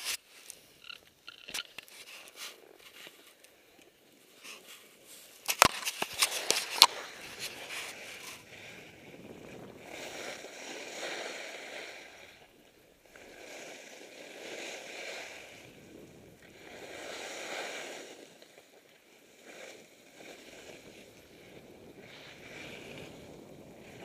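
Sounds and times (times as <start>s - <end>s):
skis scraping over snow: 1.8s - 24.0s.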